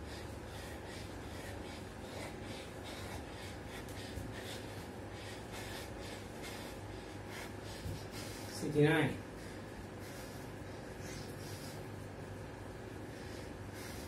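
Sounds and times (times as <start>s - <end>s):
man breathing hard: 0.0s - 14.0s.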